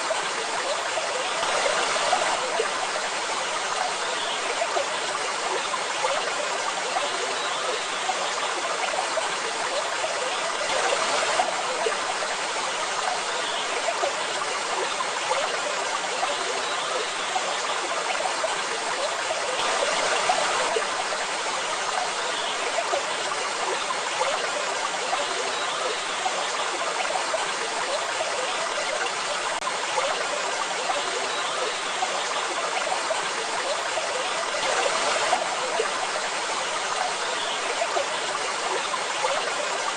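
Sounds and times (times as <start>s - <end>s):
water rushing and splashing: 0.0s - 39.9s.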